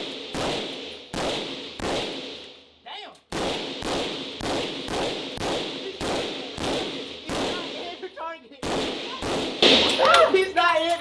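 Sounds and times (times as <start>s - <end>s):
gunshots with echo: 0.0s - 2.5s, 3.3s - 8.0s, 8.6s - 10.5s.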